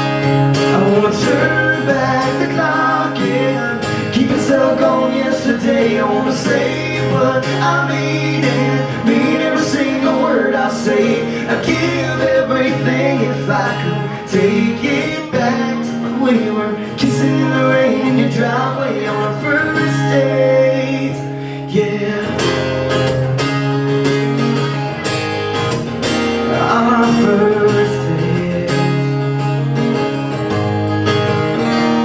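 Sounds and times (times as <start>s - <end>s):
band with strummed acoustic guitar: 0.0s - 32.0s.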